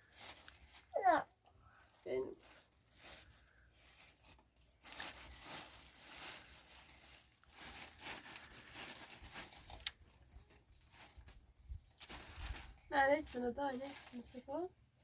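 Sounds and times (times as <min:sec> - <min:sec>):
rustling and tearing: 0:00.0 - 0:14.7.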